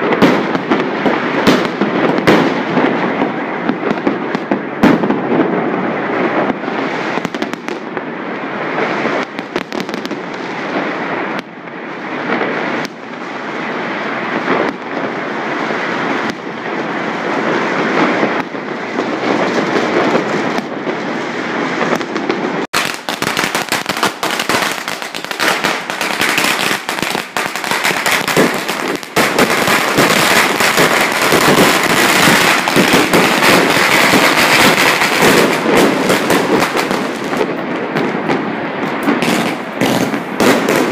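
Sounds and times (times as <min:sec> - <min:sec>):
firecrackers crackling: 0:00.0 - 0:40.9
firework bangs: 0:00.0 - 0:40.9.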